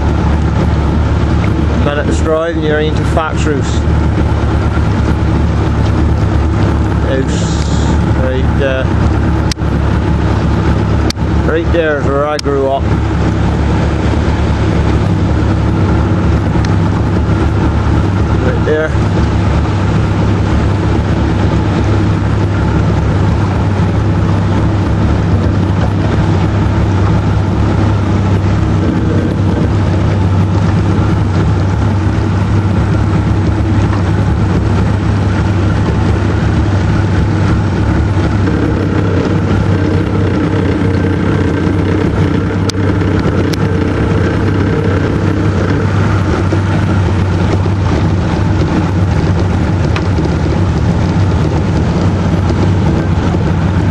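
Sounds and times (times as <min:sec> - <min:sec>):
outboard motor droning: 0:00.0 - 0:53.9
water noise: 0:00.0 - 0:53.9
wind noise: 0:00.0 - 0:53.9.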